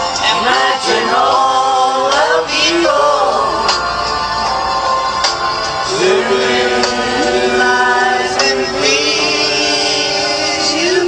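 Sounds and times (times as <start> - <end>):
person singing with accompaniment: 0.0 - 11.0.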